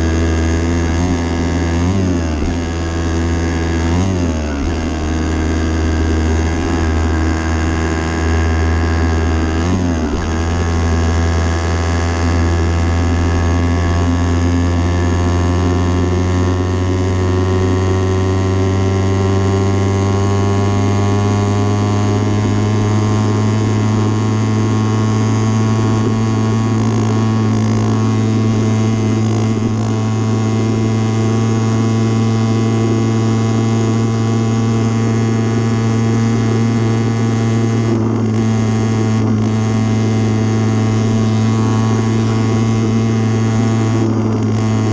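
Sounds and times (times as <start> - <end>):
motorbike engine running: 0.0 - 44.9.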